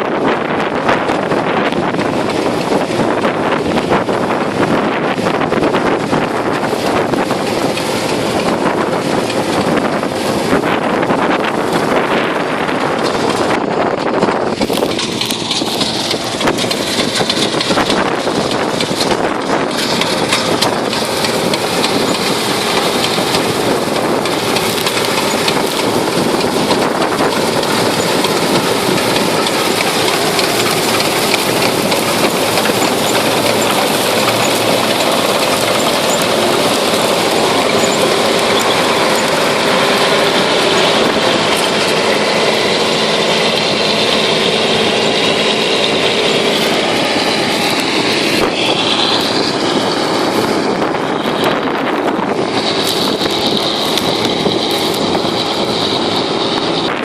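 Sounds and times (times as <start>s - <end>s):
harvester running: 0.0s - 57.0s.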